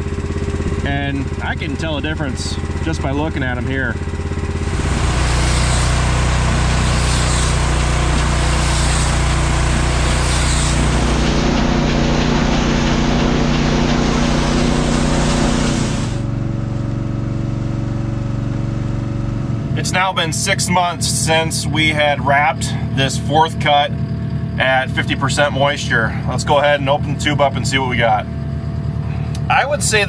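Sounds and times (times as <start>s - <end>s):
bale wrapper machinery running: 0.0s - 30.0s.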